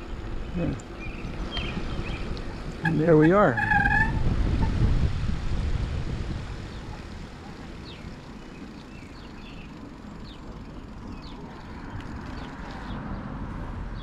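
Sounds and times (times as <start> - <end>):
wind and bicycle ride rumble: 0.0 - 14.0.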